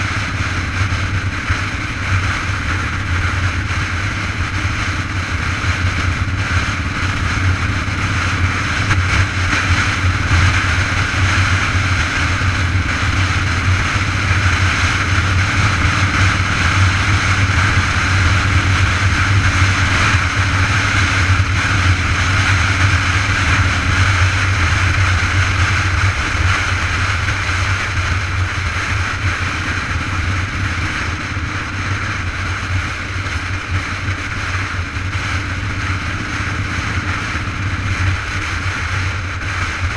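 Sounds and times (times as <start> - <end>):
low rumble of bicycle on road: 0.0 - 39.9
wind on microphone: 0.0 - 39.9.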